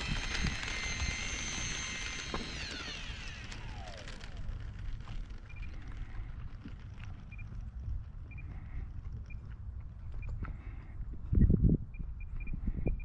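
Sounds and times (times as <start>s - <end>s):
electric ducted fans whining: 0.0s - 13.0s
low wind rumble: 0.0s - 13.0s.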